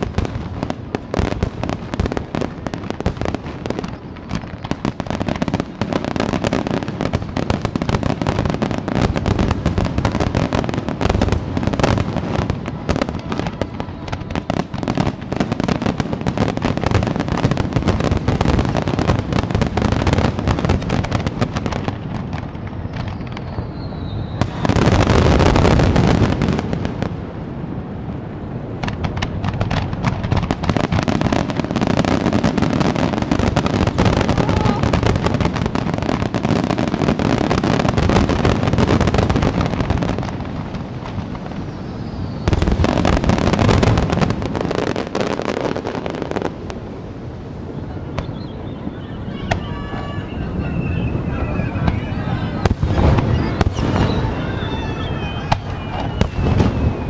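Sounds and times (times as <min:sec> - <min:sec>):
falling firework whistle: 0:00.0 - 0:27.2, 0:30.6 - 0:40.4, 0:41.0 - 0:46.2, 0:47.7 - 0:57.0
fireworks booms and crackling: 0:00.0 - 0:57.0.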